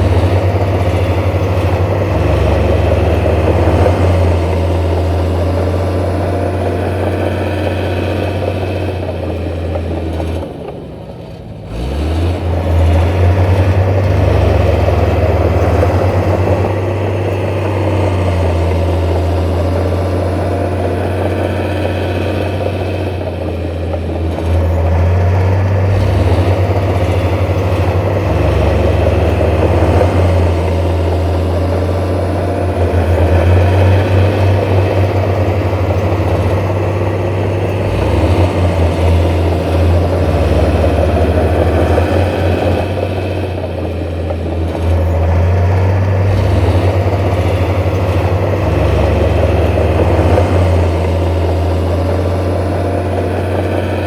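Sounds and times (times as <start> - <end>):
diesel earthmoving machine engine: 0.0 - 54.0.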